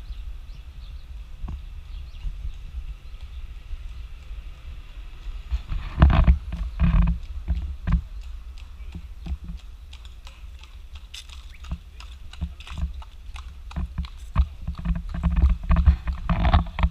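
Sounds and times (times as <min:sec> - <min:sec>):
horse hooves clip-clopping on asphalt: 0:01.2 - 0:16.9.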